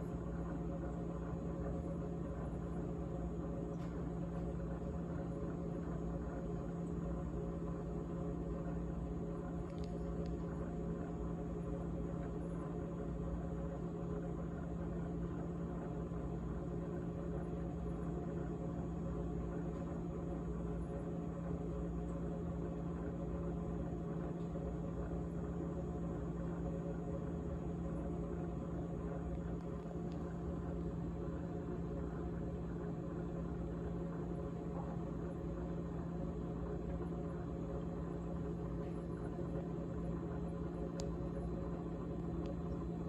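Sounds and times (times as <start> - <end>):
refrigerator humming with rattle: 0.0 - 43.0.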